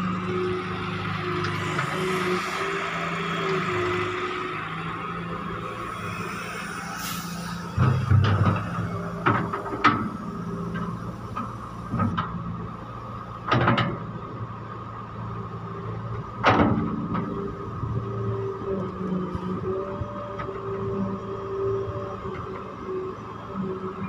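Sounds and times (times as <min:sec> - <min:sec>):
excavator engine running: 0:00.0 - 0:24.0.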